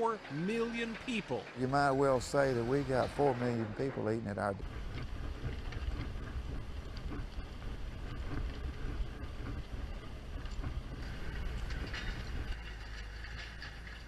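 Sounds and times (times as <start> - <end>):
steady low rumble: 0.3 - 14.0
wind buffeting microphone: 1.6 - 13.2.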